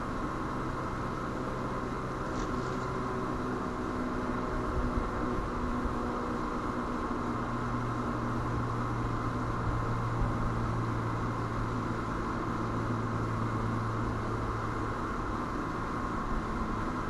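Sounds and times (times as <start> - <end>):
constant hiss: 0.0 - 17.0
steady low hum: 0.0 - 17.0.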